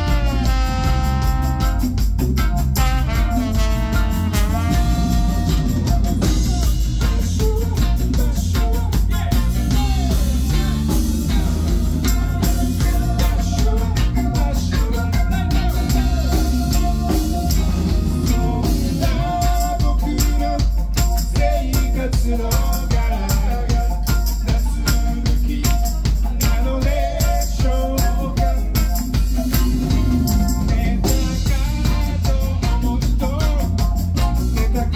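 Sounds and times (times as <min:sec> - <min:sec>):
drum kit beat: 0:00.0 - 0:34.9
electric guitar: 0:00.0 - 0:34.9
keyboard: 0:00.0 - 0:34.9.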